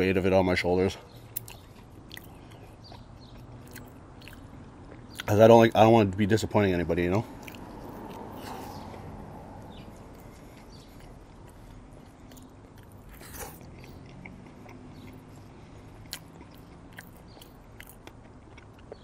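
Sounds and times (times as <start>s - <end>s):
biting into a sandwich: 1.1s - 5.4s, 7.3s - 9.1s, 9.7s - 19.0s
chewing with mouth clicks: 1.1s - 5.4s, 7.2s - 19.0s.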